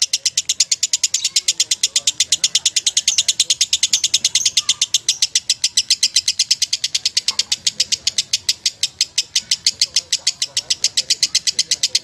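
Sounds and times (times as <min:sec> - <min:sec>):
lovebird trilling: 0:00.0 - 0:12.0.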